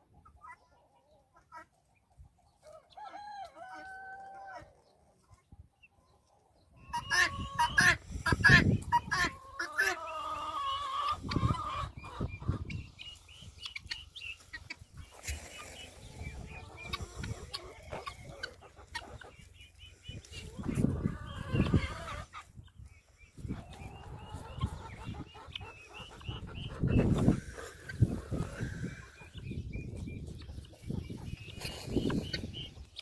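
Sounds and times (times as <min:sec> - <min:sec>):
guinea fowl and chickens calling: 0:00.0 - 0:33.0.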